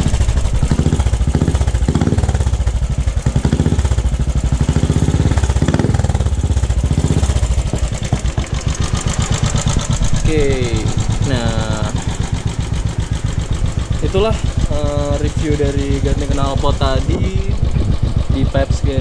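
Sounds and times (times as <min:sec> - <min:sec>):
motorcycle engine idling: 0:00.0 - 0:19.0
motorcycle throttle blips: 0:00.0 - 0:19.0.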